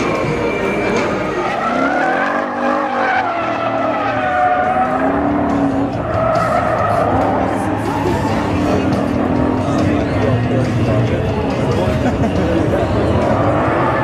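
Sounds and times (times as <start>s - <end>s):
car engine revving: 0.0s - 14.0s
tyres skidding and squealing: 0.0s - 14.0s.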